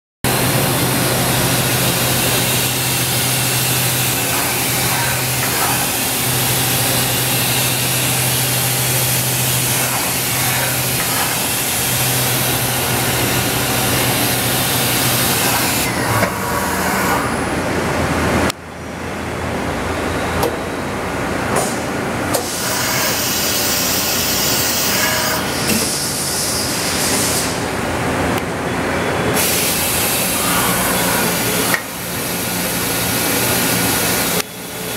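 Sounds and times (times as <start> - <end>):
loud air hissing: 0.3 - 17.4, 21.7 - 27.8, 29.4 - 34.9.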